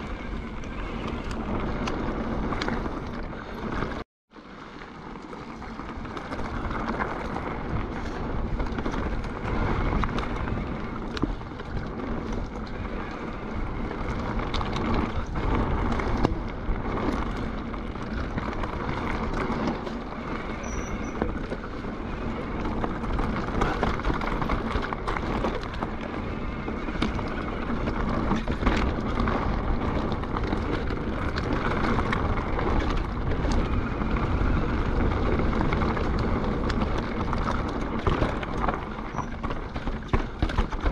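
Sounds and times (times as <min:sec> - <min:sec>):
bike clicks and rattles: 0:00.0 - 0:40.9.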